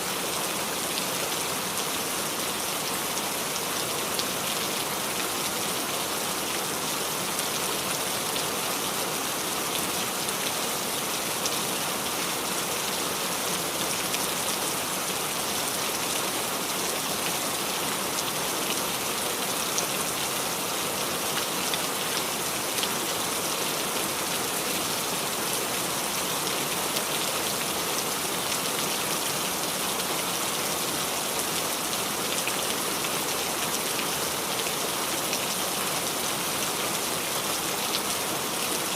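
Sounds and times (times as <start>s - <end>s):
rain on leaves: 0.0s - 38.9s.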